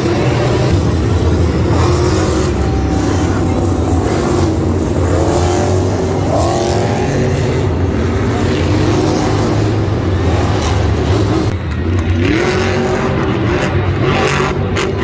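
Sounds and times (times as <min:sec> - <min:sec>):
monster truck engines revving: 0:00.0 - 0:15.0.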